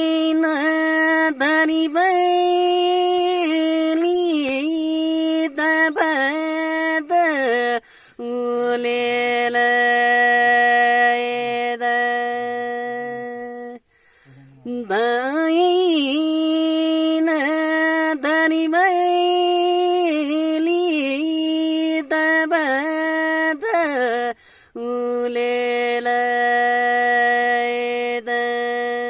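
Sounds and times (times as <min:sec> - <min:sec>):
man singing unaccompanied: 0:00.0 - 0:29.0.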